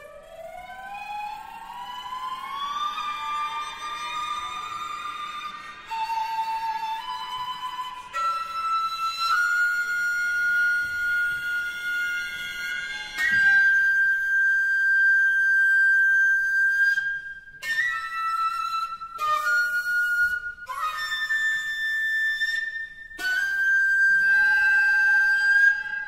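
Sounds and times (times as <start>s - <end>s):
bamboo flute long high notes: 0.0s - 26.0s.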